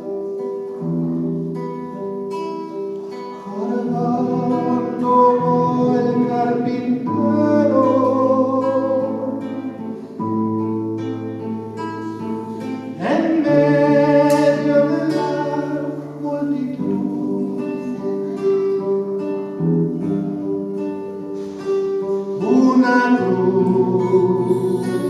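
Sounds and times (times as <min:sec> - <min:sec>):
plucked acoustic guitar: 0:00.0 - 0:25.0.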